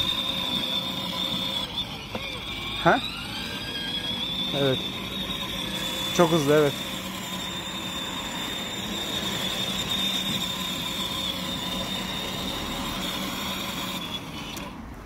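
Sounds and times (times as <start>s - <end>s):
toy car electric motor whining: 0.0s - 15.0s.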